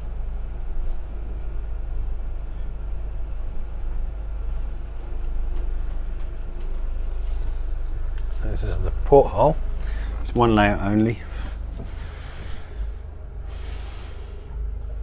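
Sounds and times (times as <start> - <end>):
boat cabin rumble: 0.0 - 15.0.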